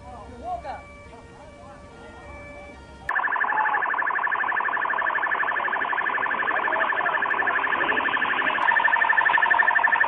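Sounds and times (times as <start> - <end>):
rapid electronic alarm beeps: 0.0 - 10.0.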